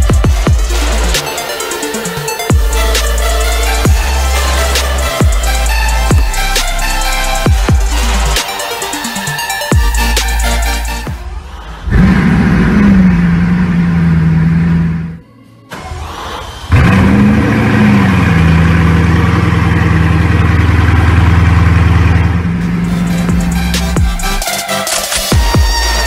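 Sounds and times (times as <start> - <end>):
car engine starting and idling: 0.0 - 26.0.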